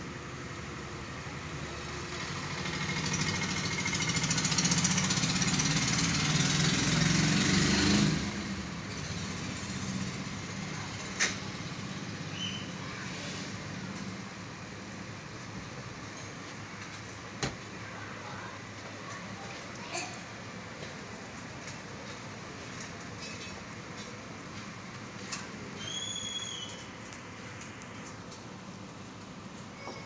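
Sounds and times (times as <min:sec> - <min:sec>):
engine rumbling with hiss: 0:00.0 - 0:30.0.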